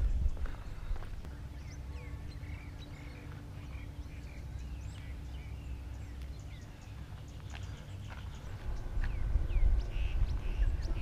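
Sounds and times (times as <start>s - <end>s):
low background rumble: 0.0s - 11.0s
small birds chirping: 0.0s - 11.0s.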